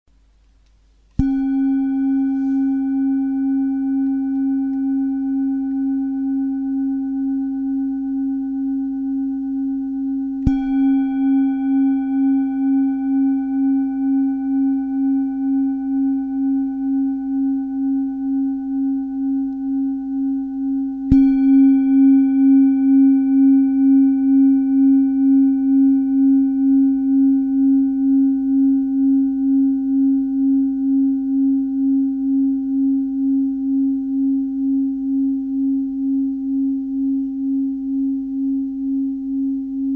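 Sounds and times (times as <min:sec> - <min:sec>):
metal singing bowl ringing: 0:01.2 - 0:39.9.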